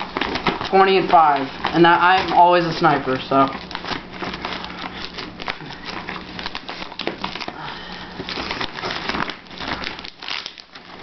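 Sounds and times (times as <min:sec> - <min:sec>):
paper tearing and crinkling: 0:00.0 - 0:11.0.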